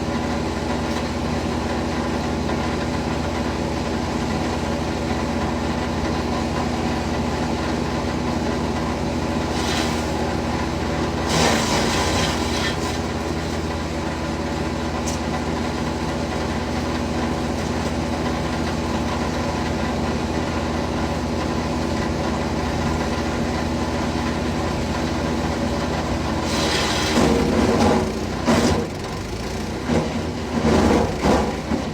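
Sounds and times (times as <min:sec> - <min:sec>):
wood chipper engine running: 0:00.0 - 0:31.9.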